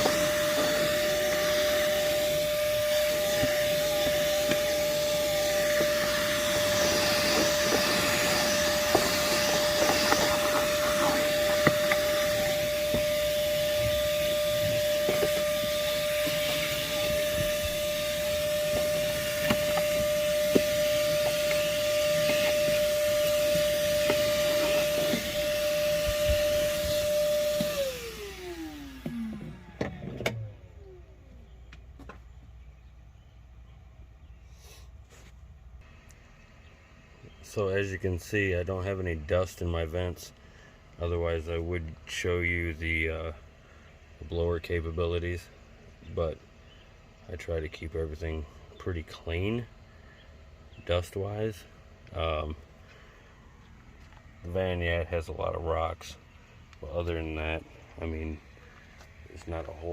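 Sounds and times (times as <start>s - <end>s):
shop vacuum whining: 0.0s - 32.2s, 35.8s - 59.9s.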